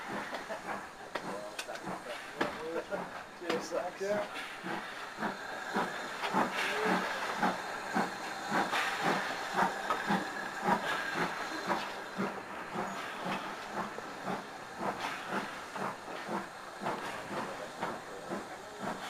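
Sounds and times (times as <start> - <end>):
steady steam hiss: 0.0 - 19.0
steam locomotive exhaust chuffs: 0.0 - 19.0.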